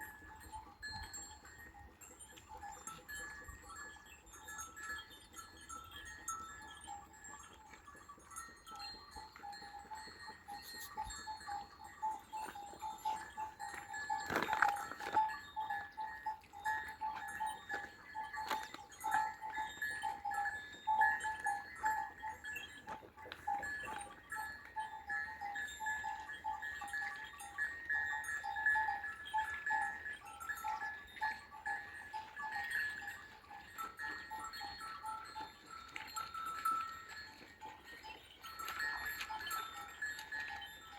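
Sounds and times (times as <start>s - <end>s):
sheep neck bells clinking: 0.0s - 40.9s.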